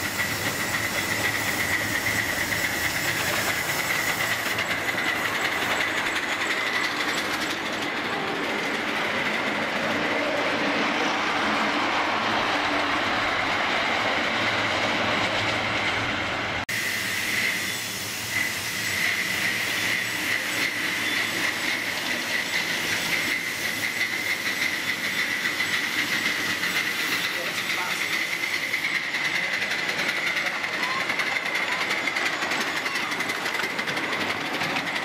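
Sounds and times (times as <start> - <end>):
high-pitched squeal: 0.0 - 29.1
train wheels clattering on rails: 0.0 - 35.0.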